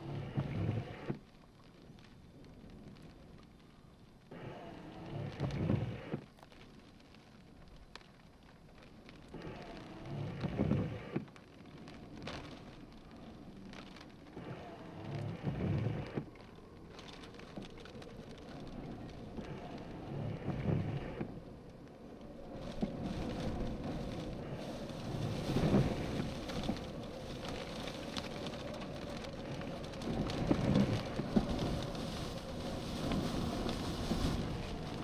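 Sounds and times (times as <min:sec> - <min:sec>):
rain rushing: 0:00.0 - 0:35.0.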